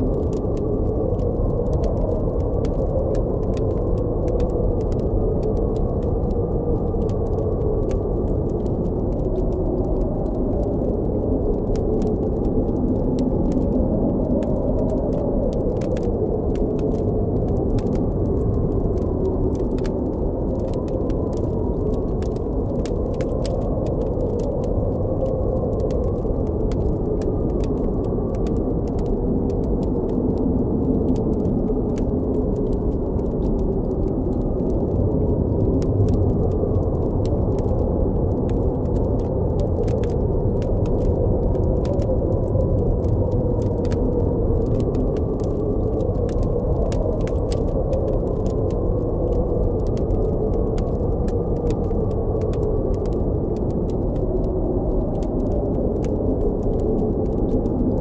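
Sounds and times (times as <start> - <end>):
campfire crackling: 0.0 - 58.0
howling blizzard wind: 0.0 - 58.0.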